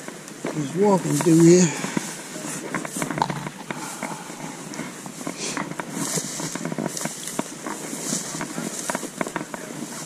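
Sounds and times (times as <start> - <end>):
footsteps crunching through dry brush: 0.0 - 10.0.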